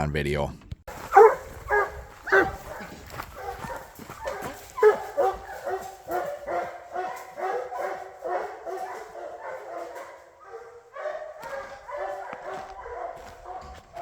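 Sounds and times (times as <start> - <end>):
hounds barking and baying: 0.9 - 14.0.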